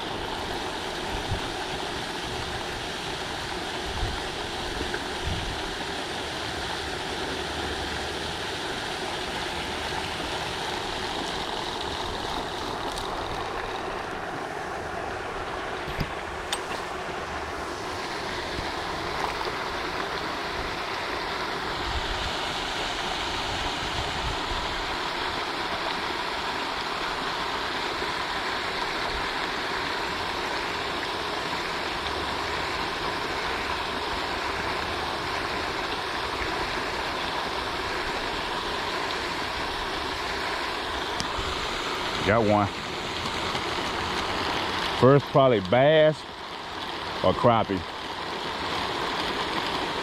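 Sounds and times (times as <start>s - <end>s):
fountain splashing water: 0.0s - 50.0s.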